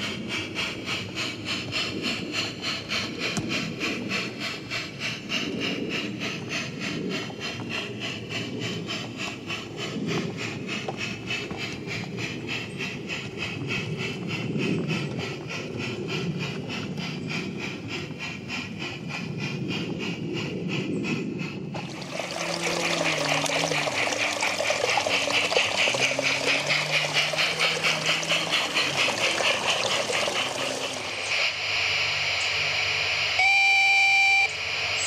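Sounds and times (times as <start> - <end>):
model train wheels clicking: 0.0 - 33.6.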